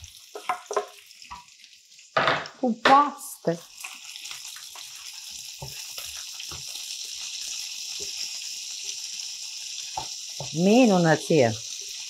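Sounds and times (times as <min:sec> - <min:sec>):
sauce sizzling in a frying pan: 0:00.0 - 0:12.0.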